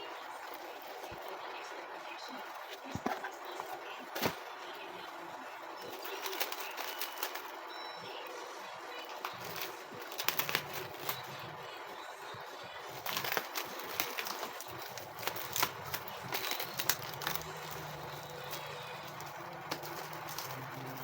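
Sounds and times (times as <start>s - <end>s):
small clicks and crackles: 0.0s - 21.0s
steady background hum: 0.0s - 21.0s.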